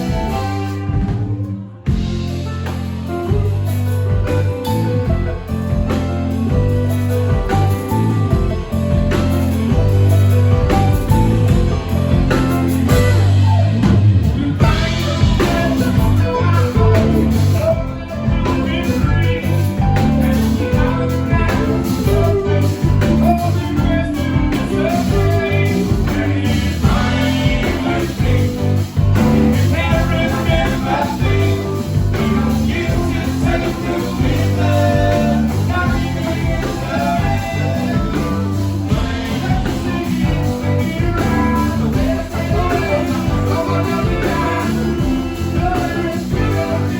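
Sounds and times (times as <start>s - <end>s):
live blues-rock band playing: 0.0s - 46.9s.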